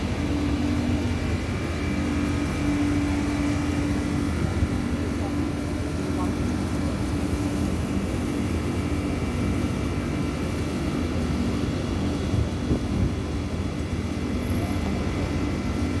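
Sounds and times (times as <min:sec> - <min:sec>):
air conditioning units humming: 0:00.0 - 0:16.0.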